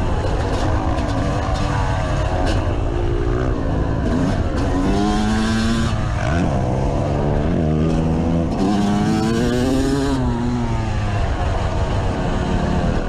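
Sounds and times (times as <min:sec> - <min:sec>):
dirt bike engine revving: 0:00.0 - 0:11.6.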